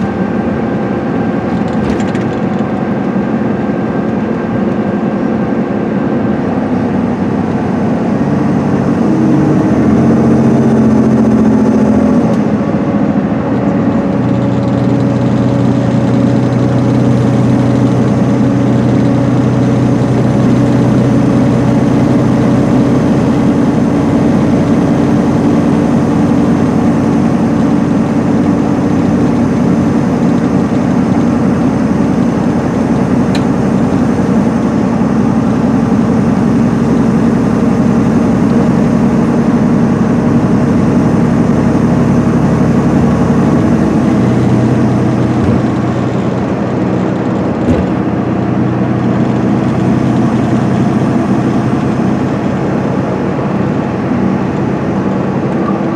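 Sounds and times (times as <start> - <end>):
diesel engine drone: 0.0 - 55.9
road and tyre noise: 0.0 - 55.9.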